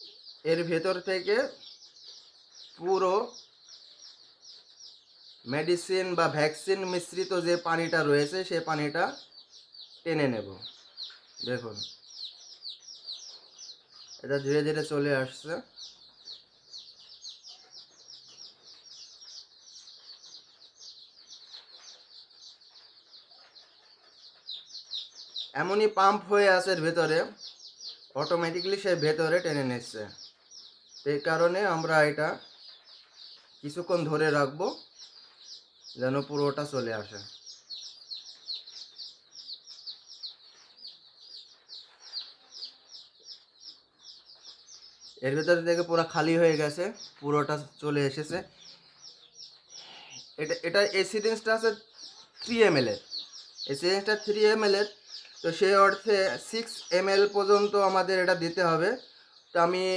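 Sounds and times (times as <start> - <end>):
faint chicks peeping: 0.0 - 59.9.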